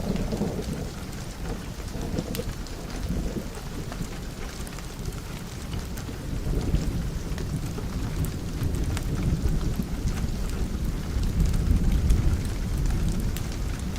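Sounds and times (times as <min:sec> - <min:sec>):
rain on a window: 0:00.0 - 0:13.9
rolling thunder: 0:00.0 - 0:13.9.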